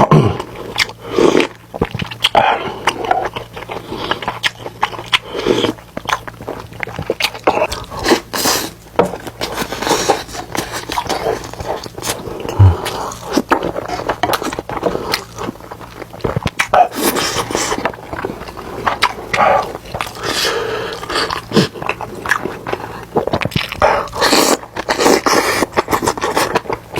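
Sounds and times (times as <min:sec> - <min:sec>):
close chewing and crunching: 0:00.0 - 0:26.9.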